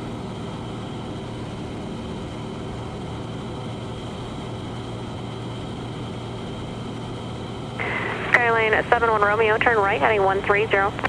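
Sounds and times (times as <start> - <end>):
light aircraft engine drone: 0.0 - 11.0.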